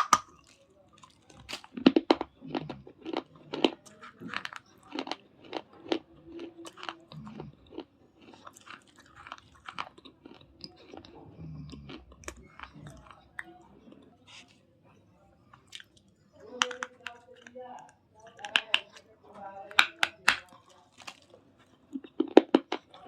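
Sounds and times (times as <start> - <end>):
person chewing crunchy clay: 0.0 - 14.6, 15.4 - 19.1, 19.7 - 23.0.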